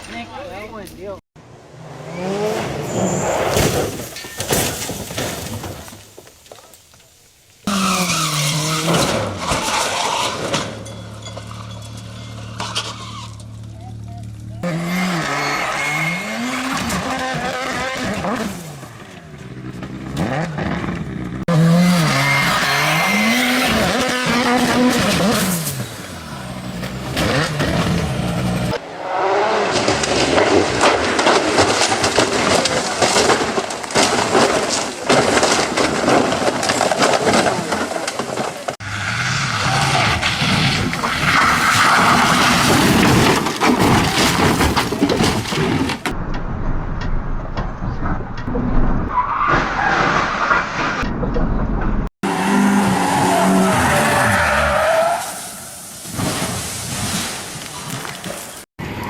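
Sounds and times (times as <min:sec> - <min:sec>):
car engines: 0:00.0 - 0:05.0, 0:07.1 - 0:56.5
tyre and road noise: 0:00.0 - 0:59.0.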